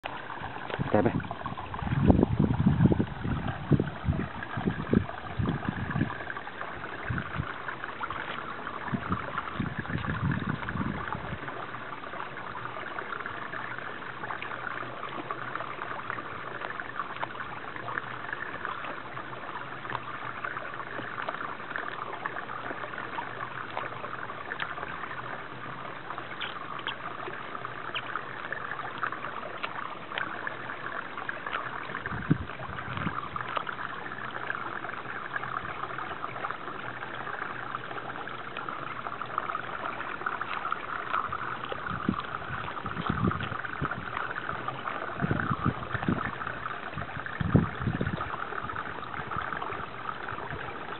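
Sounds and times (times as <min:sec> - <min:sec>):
running water rushing: 0:00.0 - 0:50.9.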